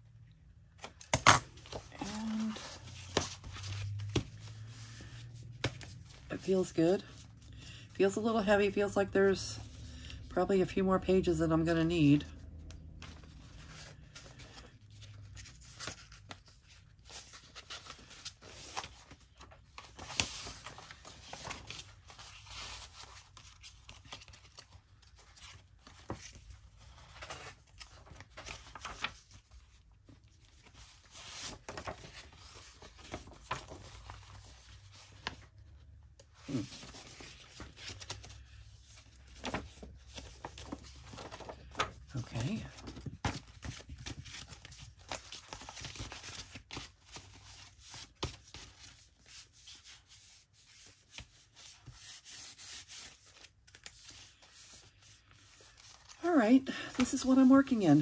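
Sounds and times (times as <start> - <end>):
paper rustling and crinkling: 0.8 - 7.5, 12.8 - 58.0.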